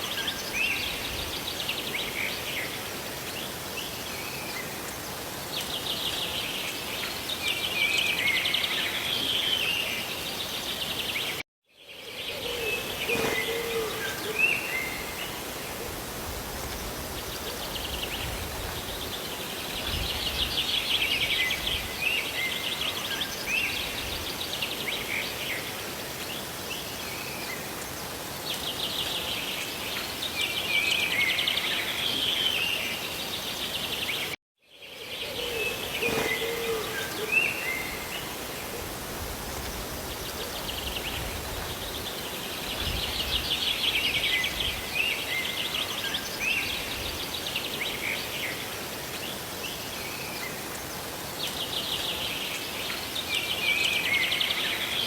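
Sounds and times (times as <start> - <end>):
hiss of rain: 0.0 - 11.4, 12.0 - 55.0
songbirds trilling and chirping: 0.0 - 16.0, 16.6 - 55.0.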